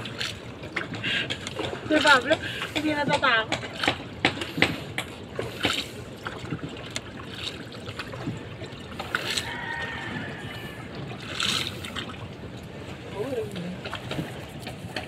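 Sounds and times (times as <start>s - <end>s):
paddle splash: 0.0s - 15.0s
water sloshing around boat hull: 0.0s - 15.0s.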